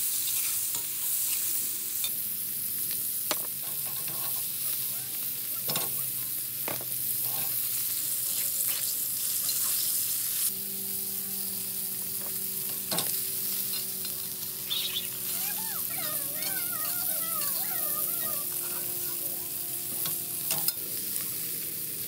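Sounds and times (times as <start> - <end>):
steaks sizzling in a skillet: 0.0 - 22.0.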